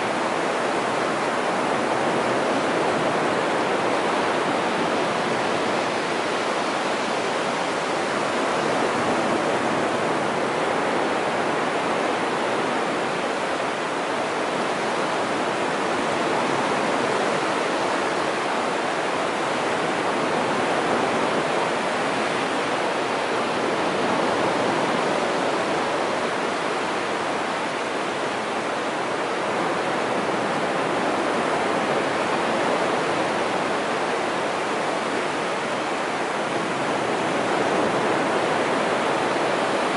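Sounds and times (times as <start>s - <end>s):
surf washing up a sandy beach: 0.0s - 39.9s.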